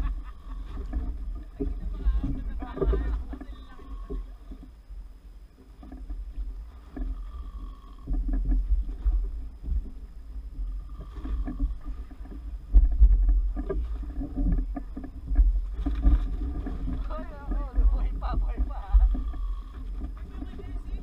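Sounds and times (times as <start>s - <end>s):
knocks and rattles on boat: 0.0s - 21.0s
wind and sea rumble: 0.0s - 21.0s.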